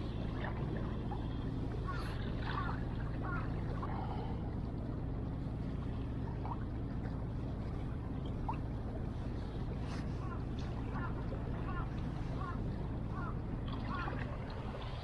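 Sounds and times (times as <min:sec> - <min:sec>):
low motor drone: 0:00.0 - 0:15.0.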